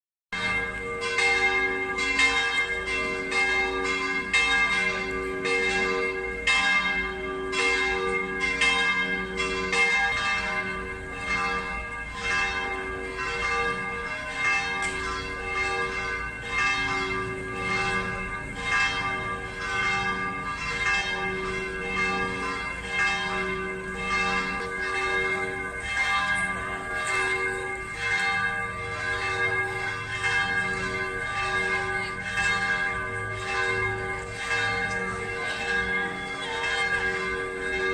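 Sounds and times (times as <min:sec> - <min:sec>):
church bells ringing: 0:00.3 - 0:37.9.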